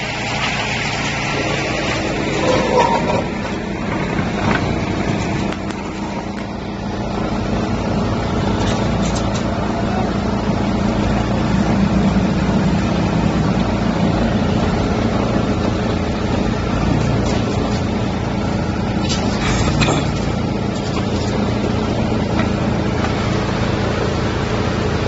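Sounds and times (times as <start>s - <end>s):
diesel engine droning: 0.0s - 25.0s
wood chipper running: 0.0s - 25.0s.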